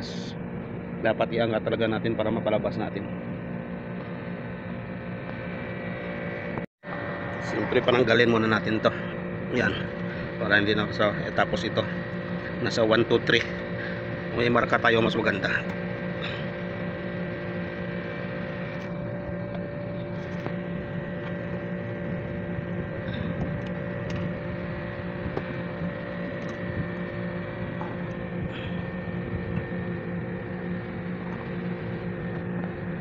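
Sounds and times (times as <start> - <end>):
steady machine hum: 0.0 - 33.0.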